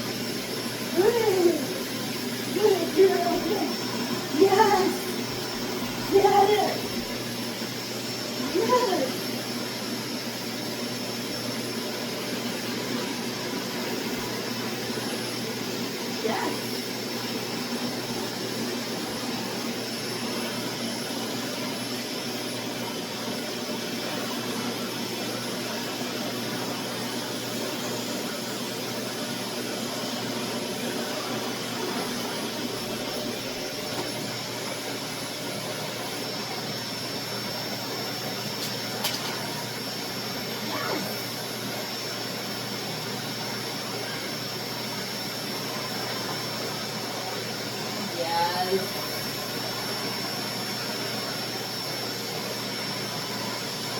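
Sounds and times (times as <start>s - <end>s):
vacuum cleaner motor running: 0.0s - 53.9s.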